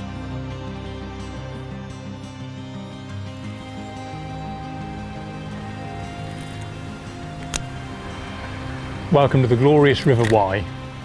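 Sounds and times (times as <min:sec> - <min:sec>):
background music with held tones: 0:00.0 - 0:11.0.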